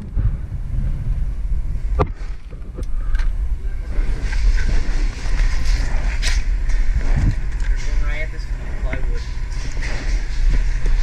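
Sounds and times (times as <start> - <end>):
low rumbling wind: 0.0 - 11.0
microphone handling noise: 0.0 - 11.0.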